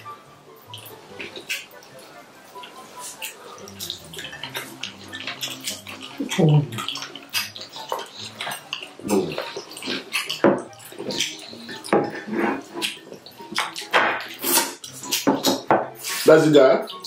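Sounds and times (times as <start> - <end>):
wet chewing and lip-smacking: 0.6 - 17.0.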